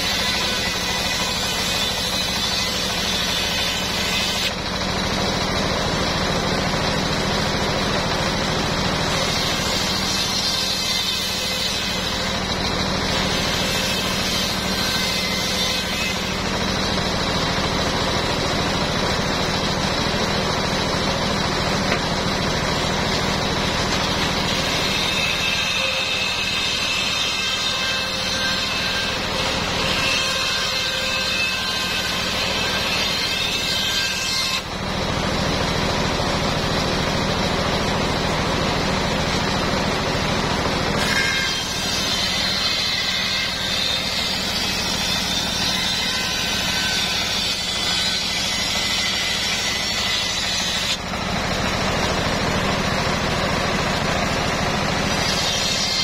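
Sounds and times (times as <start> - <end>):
saw blade ripping planks: 0.0 - 36.8, 37.4 - 56.0
sawmill engine humming: 0.0 - 56.0.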